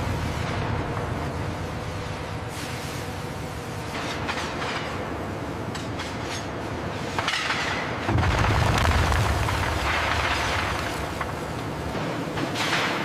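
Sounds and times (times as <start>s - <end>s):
industrial machinery running: 0.0s - 13.0s.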